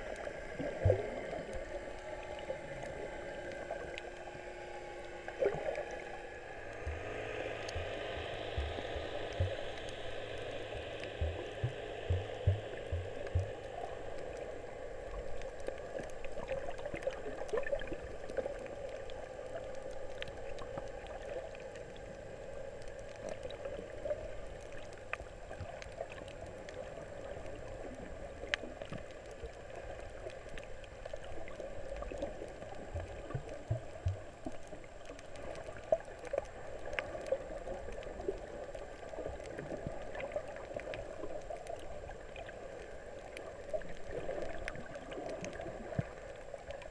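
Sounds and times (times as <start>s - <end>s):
faint underwater clicks and crackles: 0.0s - 46.9s
muffled underwater water rush: 0.0s - 46.9s.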